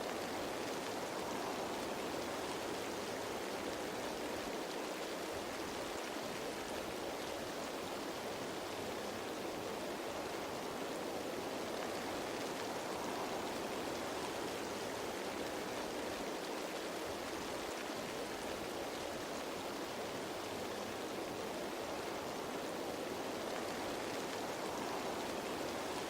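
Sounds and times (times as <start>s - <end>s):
rain falling on leaves: 0.0s - 26.0s.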